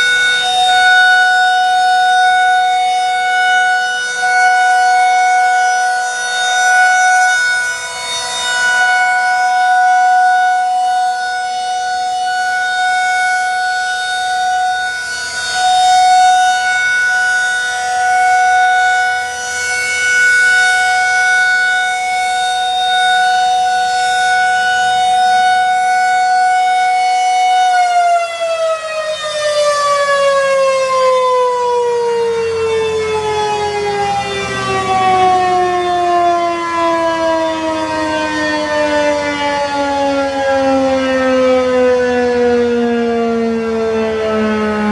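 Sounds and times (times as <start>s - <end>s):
rotating warning siren: 0.0s - 44.9s.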